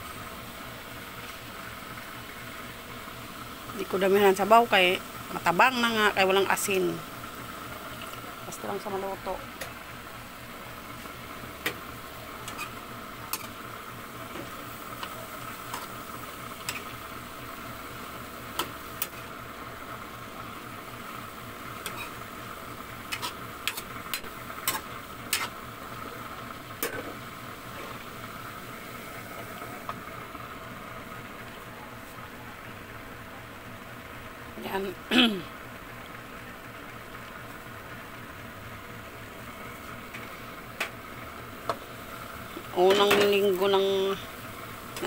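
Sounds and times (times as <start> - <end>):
food simmering with hiss: 0.0 - 45.0.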